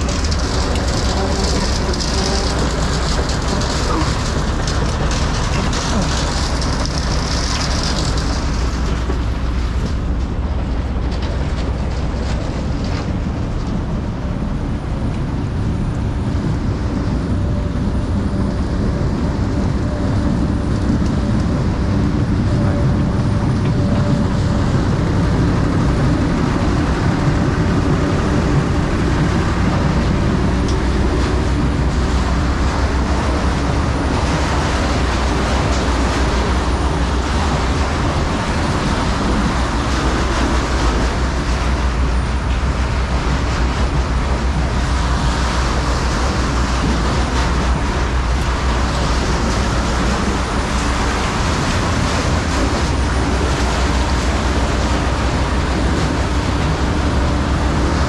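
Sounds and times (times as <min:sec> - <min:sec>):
low mechanical rumble: 0:00.0 - 0:58.0.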